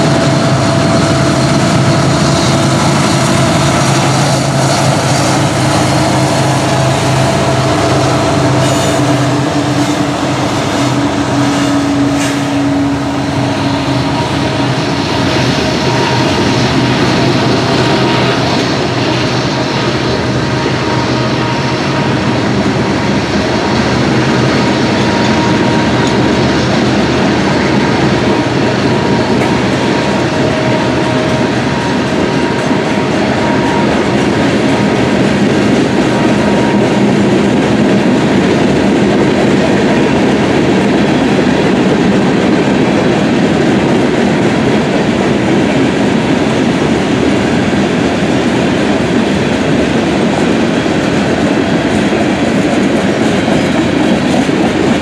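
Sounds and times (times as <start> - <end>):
diesel locomotive engines: 0.0 - 55.0.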